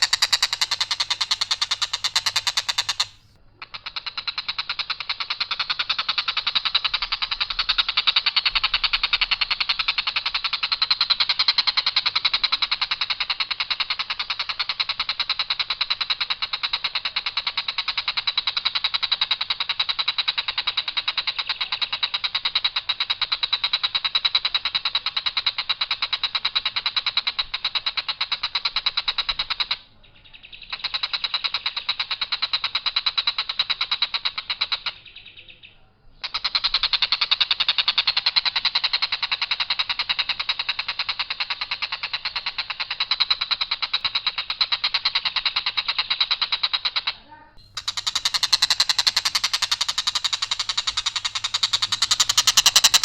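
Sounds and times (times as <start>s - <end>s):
kingfisher rattling call: 0.0s - 29.8s, 30.6s - 35.1s, 36.2s - 53.0s.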